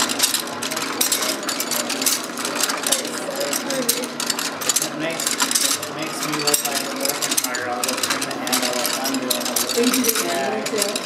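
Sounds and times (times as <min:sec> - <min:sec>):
braiding machine rattling: 0:00.0 - 0:11.0.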